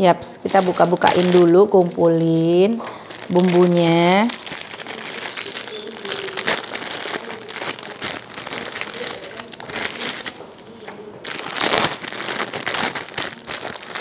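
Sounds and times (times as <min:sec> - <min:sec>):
plastic packet crinkling: 0:00.4 - 0:14.0.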